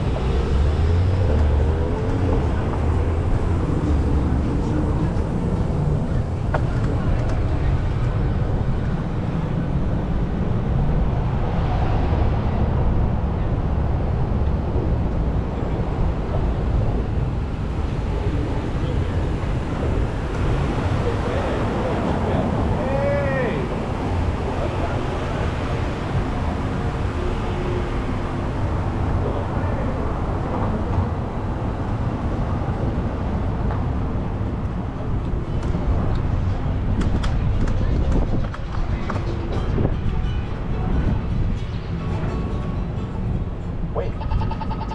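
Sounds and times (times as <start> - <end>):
street traffic passing: 0.0 - 44.9
wind rumble on microphone: 0.0 - 44.9.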